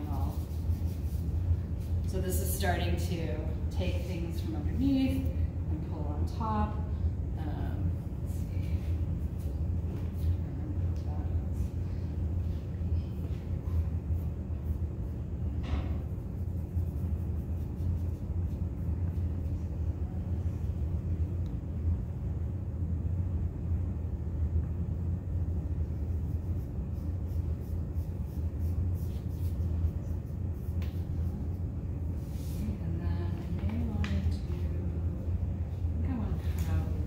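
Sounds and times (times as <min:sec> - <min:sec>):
low room rumble: 0:00.0 - 0:37.0.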